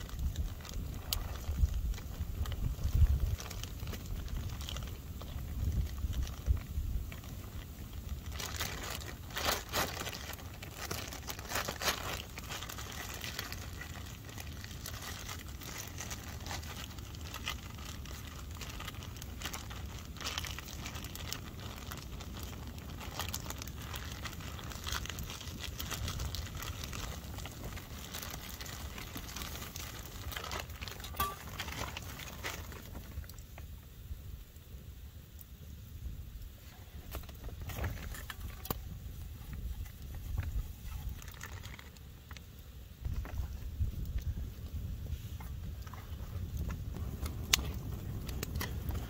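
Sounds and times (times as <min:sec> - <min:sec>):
plastic bag crinkling: 0:00.0 - 0:33.6, 0:36.6 - 0:42.4
wind rumble on microphone: 0:00.0 - 0:49.0.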